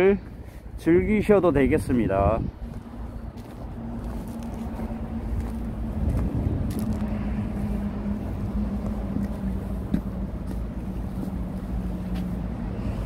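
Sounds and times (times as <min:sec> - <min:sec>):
motor engine droning: 0:02.4 - 0:13.0.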